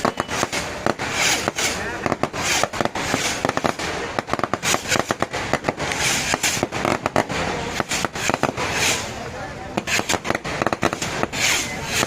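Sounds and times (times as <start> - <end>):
fireworks bangs and crackling: 0.0 - 12.0
fireworks hiss: 0.0 - 12.0.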